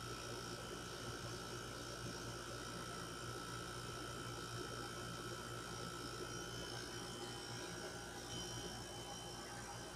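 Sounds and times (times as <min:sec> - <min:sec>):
air conditioner hum: 0:00.0 - 0:09.9.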